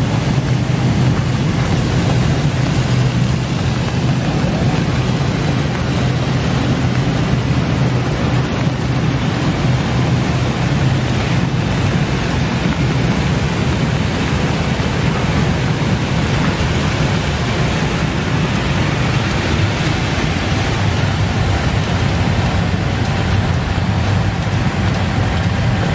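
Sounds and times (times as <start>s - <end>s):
churning water hiss: 0.0s - 25.9s
machine blower humming: 0.0s - 25.9s.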